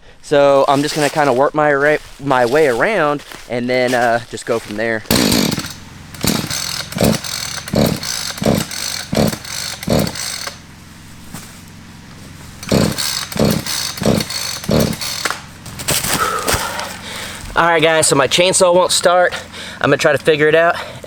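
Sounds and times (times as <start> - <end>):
chainsaw pull-start cord yanks: 3.9 - 21.0.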